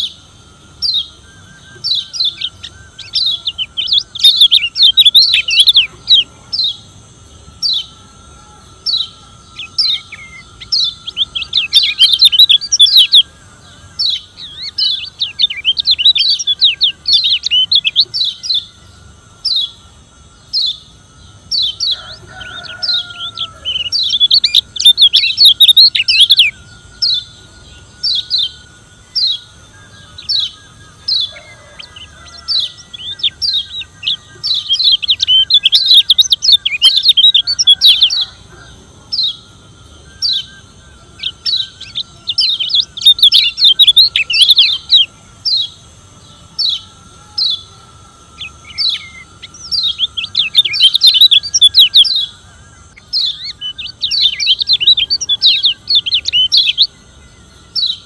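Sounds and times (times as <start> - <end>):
bird chirping and chattering: 0.0 - 8.1, 8.8 - 39.4, 40.1 - 57.1.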